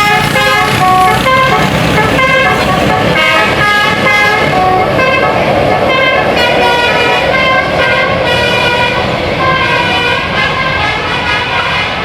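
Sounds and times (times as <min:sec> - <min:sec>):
bus engine running: 0:00.0 - 0:12.0
musical bus horn tune: 0:00.0 - 0:12.0.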